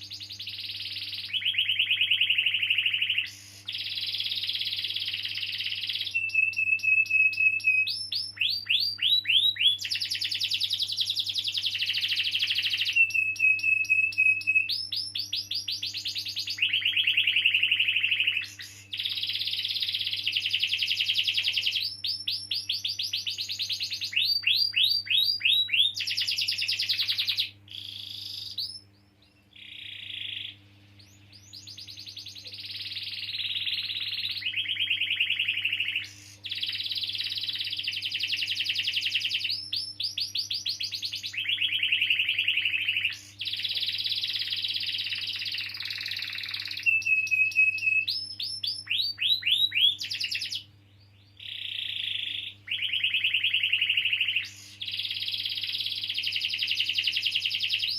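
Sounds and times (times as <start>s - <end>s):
canary held whistle: 0.0s - 28.9s, 29.8s - 50.6s, 51.4s - 57.9s
canary singing rolling trills: 0.0s - 57.9s.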